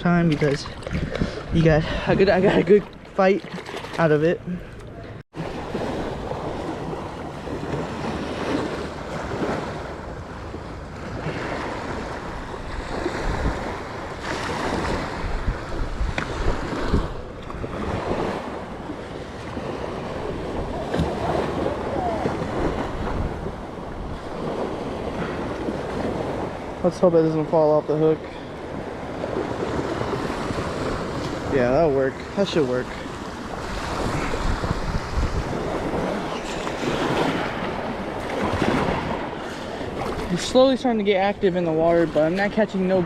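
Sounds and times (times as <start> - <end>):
wind buffeting microphone: 0.0 - 3.2, 5.0 - 26.9, 28.5 - 43.0
ocean waves breaking: 0.0 - 43.0.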